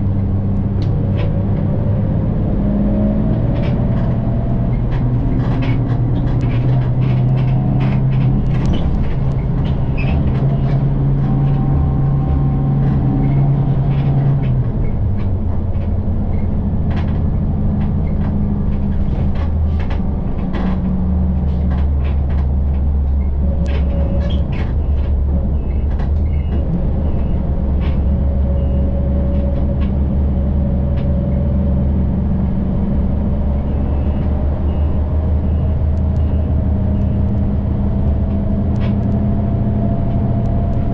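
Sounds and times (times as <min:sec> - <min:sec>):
bus engine drone: 0:00.0 - 0:40.9
road noise: 0:00.0 - 0:40.9
bodywork rattles and clicks: 0:00.2 - 0:40.9.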